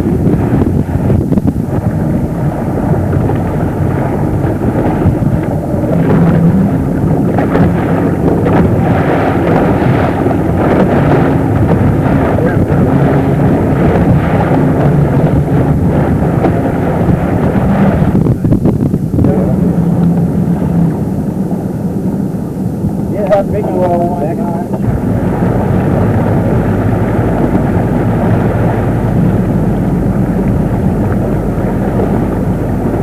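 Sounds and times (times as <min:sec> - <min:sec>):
motorboat engine humming: 0:00.0 - 0:33.0
wind buffeting microphone: 0:00.0 - 0:33.0.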